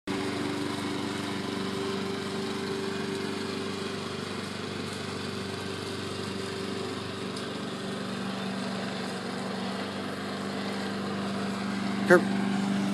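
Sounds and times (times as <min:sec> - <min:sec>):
lawn mower engine running: 0:00.1 - 0:12.9.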